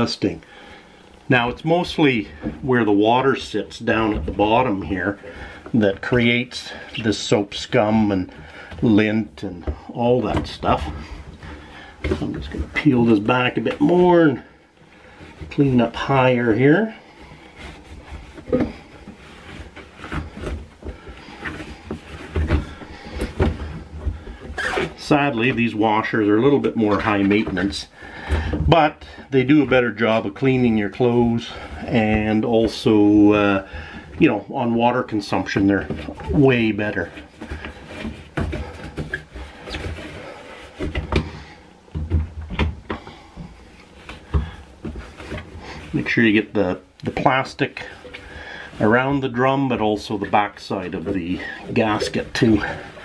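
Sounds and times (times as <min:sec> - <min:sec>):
cloth scrubbing rubber gasket: 0:00.0 - 0:53.0
soft knocks and thumps: 0:01.4 - 0:34.5, 0:35.6 - 0:49.4.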